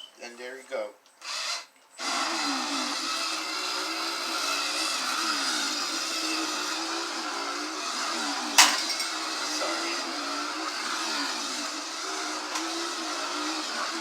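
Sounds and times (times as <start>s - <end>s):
toy chainsaw whirring buzz: 1.2s - 14.0s.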